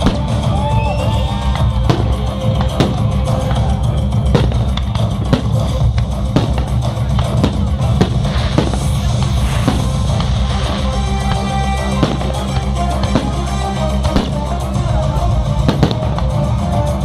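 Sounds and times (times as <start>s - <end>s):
loud music with heavy drum beat: 0.0s - 17.0s.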